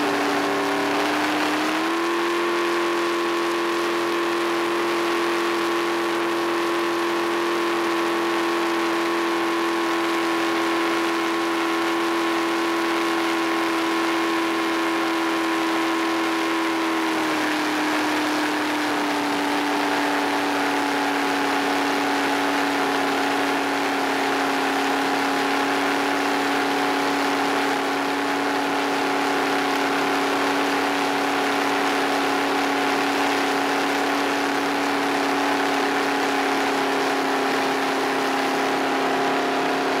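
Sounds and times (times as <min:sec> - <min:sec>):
boat engine running: 0:00.0 - 0:40.0.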